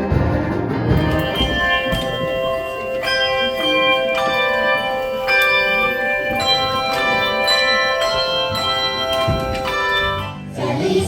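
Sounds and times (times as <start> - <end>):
tuned bells ringing a melody: 1.0 - 10.7.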